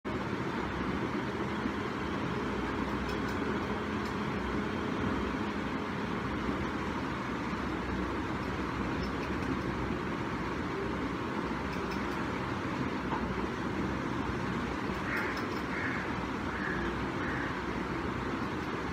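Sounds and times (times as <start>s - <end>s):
steady rushing noise: 0.0s - 18.9s.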